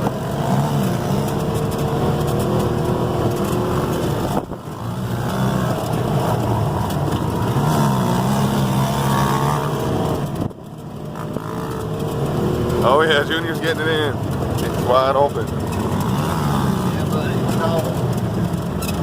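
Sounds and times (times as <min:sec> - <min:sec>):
atv engines revving: 0:00.0 - 0:19.0.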